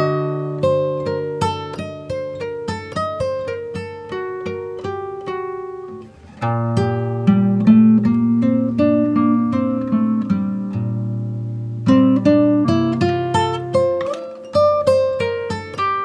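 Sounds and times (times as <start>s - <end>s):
plucked acoustic guitar melody: 0.0s - 16.0s.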